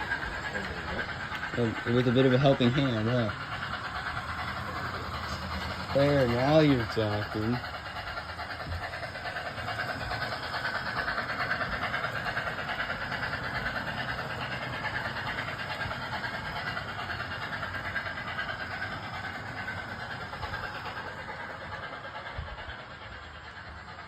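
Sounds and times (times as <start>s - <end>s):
model train rattling on track: 0.0s - 24.0s.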